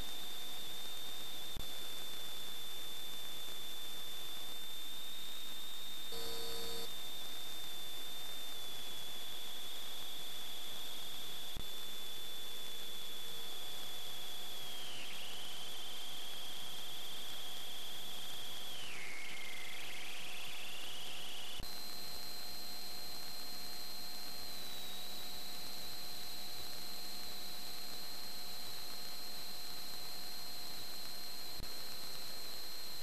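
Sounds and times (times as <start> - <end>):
electronic hiss with high whine: 0.0 - 33.0.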